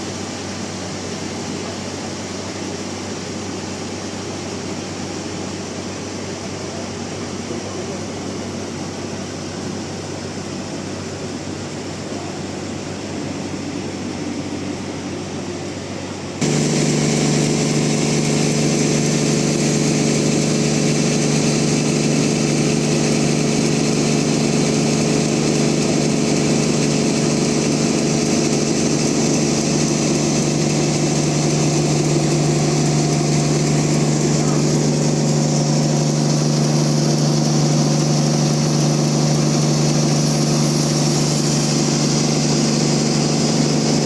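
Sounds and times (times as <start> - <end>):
sawmill machinery running: 0.0 - 44.0.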